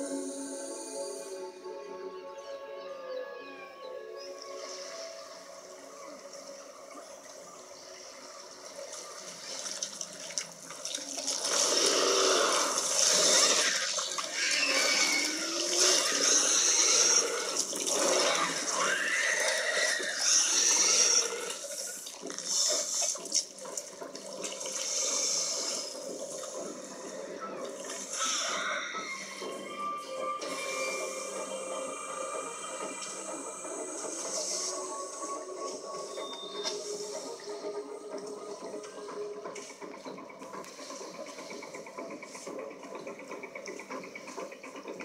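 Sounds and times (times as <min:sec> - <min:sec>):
water splashing and sloshing: 0:04.6 - 0:45.0.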